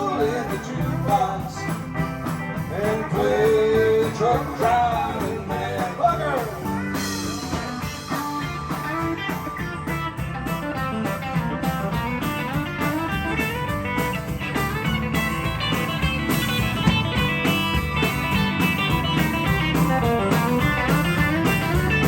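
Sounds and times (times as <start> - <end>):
country band backing: 0.0 - 22.0.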